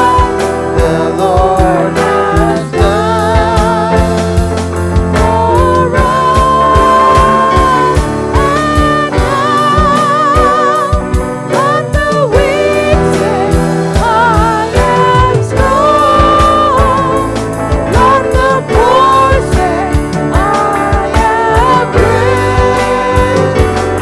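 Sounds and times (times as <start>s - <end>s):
band with drums bass and guitar: 0.0s - 24.0s
person singing with vibrato: 0.0s - 24.0s.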